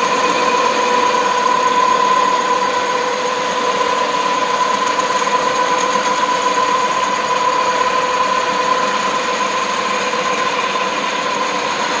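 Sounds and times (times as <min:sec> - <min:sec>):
concrete grinding machine: 0:00.0 - 0:12.0.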